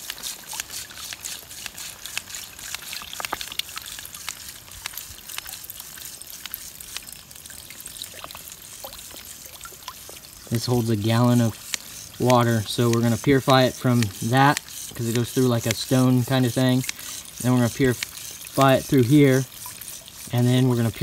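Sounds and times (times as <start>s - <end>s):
water trickling into plastic bag: 0.0s - 21.0s.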